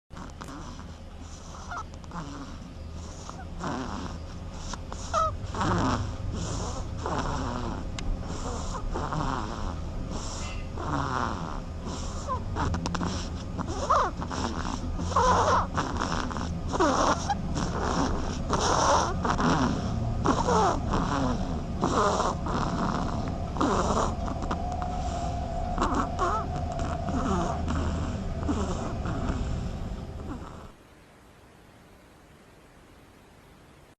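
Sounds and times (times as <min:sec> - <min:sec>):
duckling snoring: 0:00.1 - 0:30.8
steady low hum: 0:00.1 - 0:33.9.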